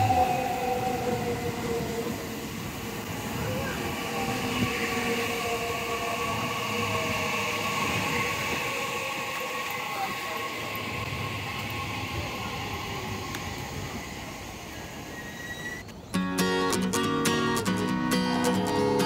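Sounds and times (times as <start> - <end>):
train motor whine: 0.0 - 16.0
electric train rumbling: 0.0 - 19.0.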